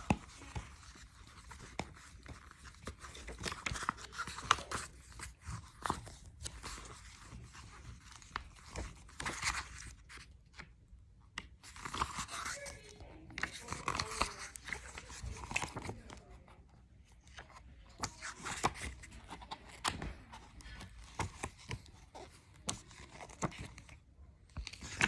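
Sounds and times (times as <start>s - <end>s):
book pages rustling and crinkling: 0.0s - 25.0s.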